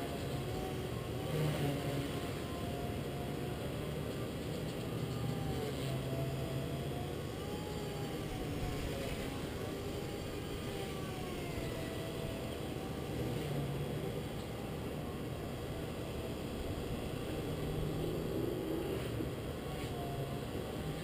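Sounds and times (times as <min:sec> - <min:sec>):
rc helicopter whine: 0:00.0 - 0:21.0.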